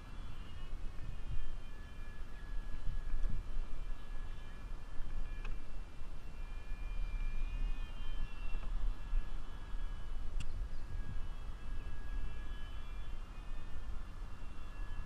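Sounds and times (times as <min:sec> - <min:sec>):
faint thin whine: 0:00.0 - 0:15.0
wind buffeting microphone: 0:00.0 - 0:15.0.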